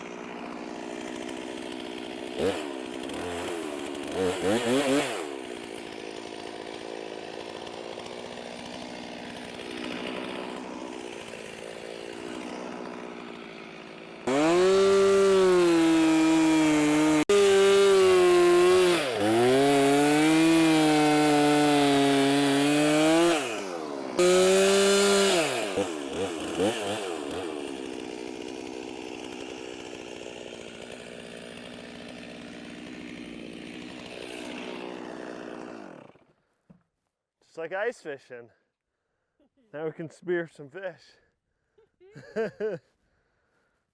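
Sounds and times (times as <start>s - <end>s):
chainsaw cutting through ice: 0.0s - 36.5s, 42.2s - 42.8s.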